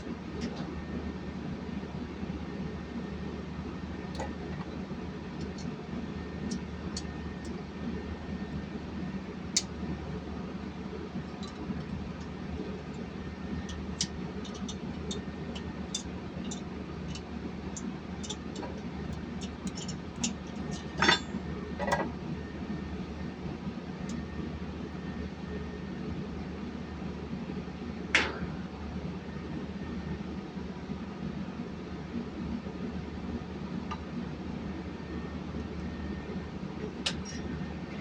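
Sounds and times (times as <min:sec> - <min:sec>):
low machinery hum: 0:00.0 - 0:38.0.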